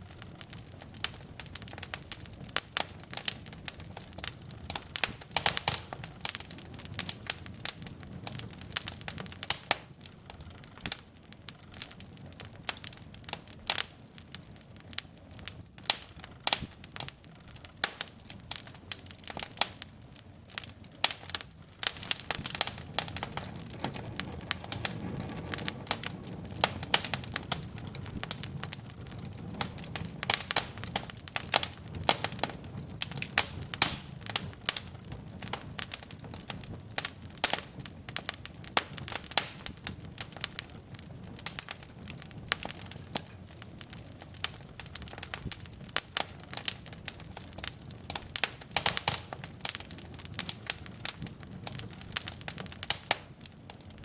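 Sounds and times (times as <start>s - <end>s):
fire crackling and popping: 0.0s - 54.0s
low rumble of flame: 0.0s - 54.0s.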